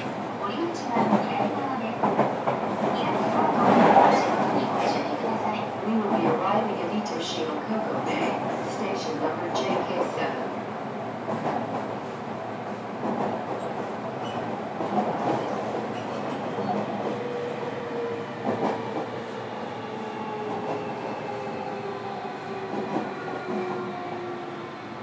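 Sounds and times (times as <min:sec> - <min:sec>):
train wheel and rail noise: 0:00.0 - 0:25.0.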